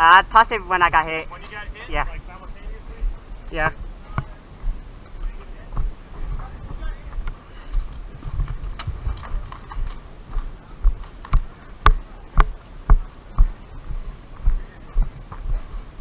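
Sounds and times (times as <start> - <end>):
footsteps with sharp clicks: 3.0 - 16.0.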